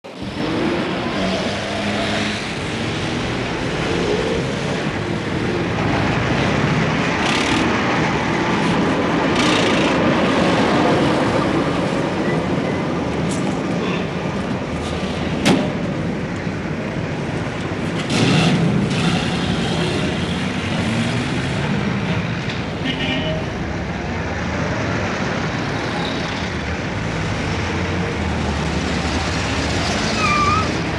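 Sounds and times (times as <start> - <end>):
road traffic: 0.0 - 30.9.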